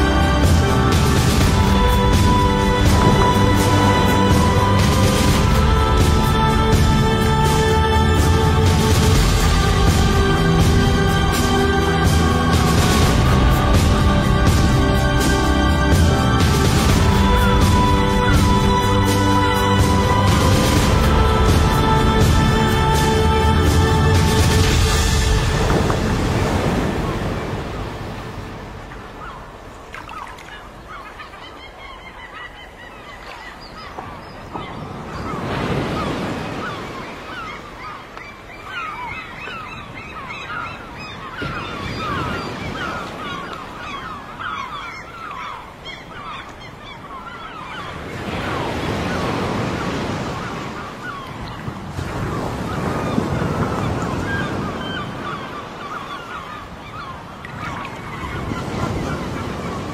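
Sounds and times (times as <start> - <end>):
birds honking: 0.0 - 28.3, 29.1 - 59.9
ocean surf washing in: 0.0 - 31.0, 34.5 - 59.9.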